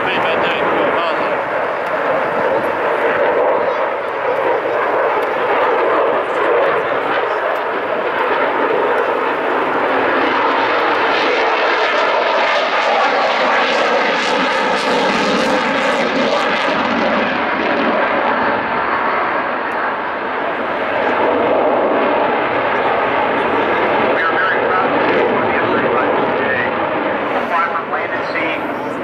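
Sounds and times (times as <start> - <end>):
fighter jet flying past: 0.0 - 29.0.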